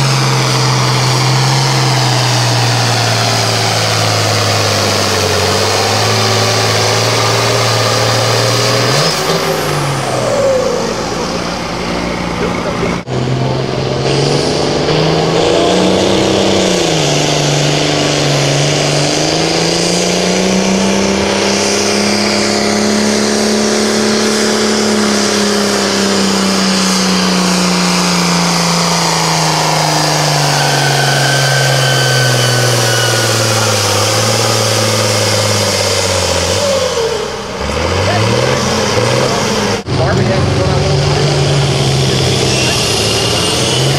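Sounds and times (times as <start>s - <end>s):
tractor engine at full throttle: 0.0s - 43.9s.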